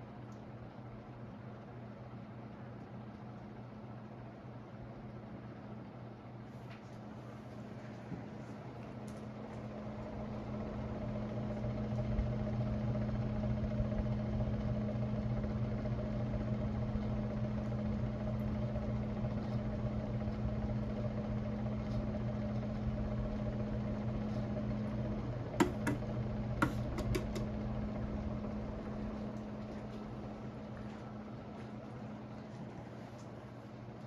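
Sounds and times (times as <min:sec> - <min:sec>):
ceiling fan motor humming: 0:06.4 - 0:34.0.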